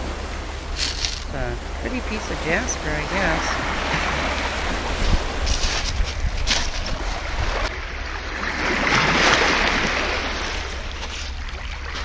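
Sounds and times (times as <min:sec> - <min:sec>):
small waves washing over pebbles: 0:00.0 - 0:12.0
wind rumble on microphone: 0:00.0 - 0:12.0.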